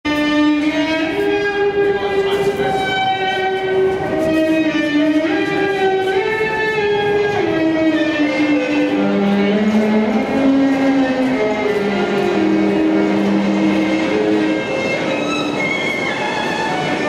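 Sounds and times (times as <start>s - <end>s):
background music with held notes: 0.1s - 17.0s.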